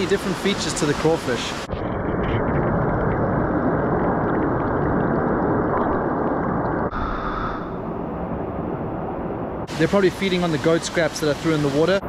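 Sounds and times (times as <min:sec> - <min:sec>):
muffled underwater creek rushing: 0:00.0 - 0:12.0.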